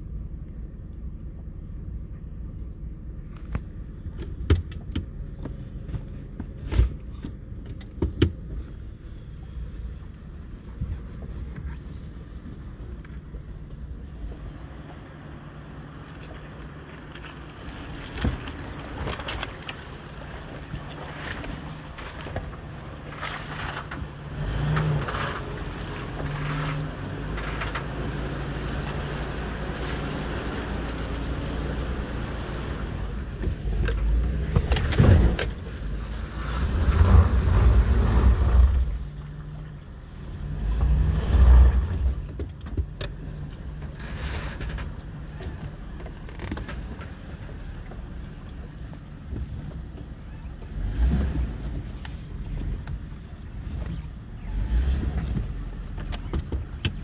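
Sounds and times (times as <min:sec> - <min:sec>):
vehicle engine running slowly: 0:00.0 - 0:57.0.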